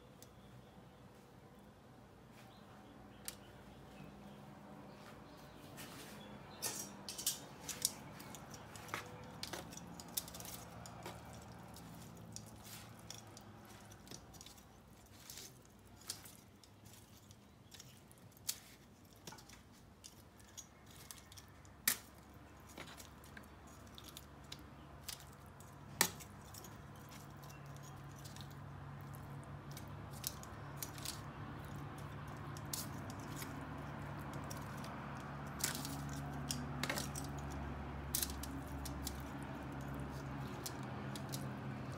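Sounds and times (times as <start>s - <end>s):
metal tongs clicking and scraping: 6.5s - 41.9s.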